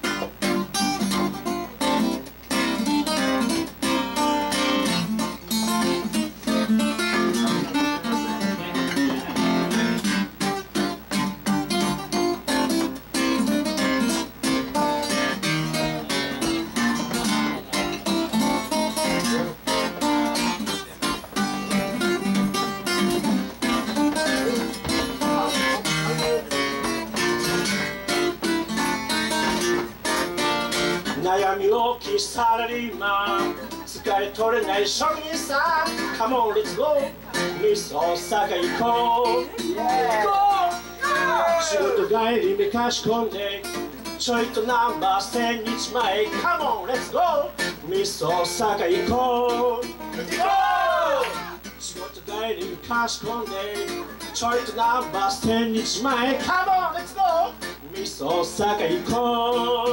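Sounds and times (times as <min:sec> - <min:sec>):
acoustic guitar picking: 0:00.0 - 0:59.9.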